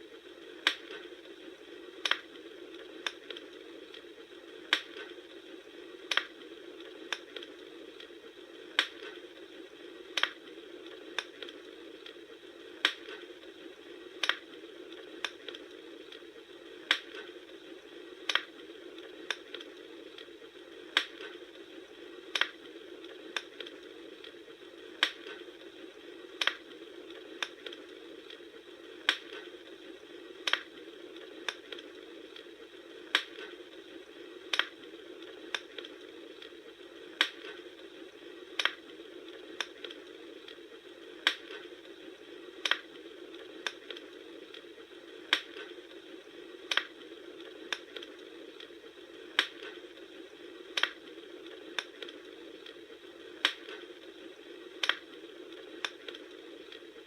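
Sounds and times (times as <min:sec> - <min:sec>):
bonfire crackling: 0:00.0 - 0:57.0.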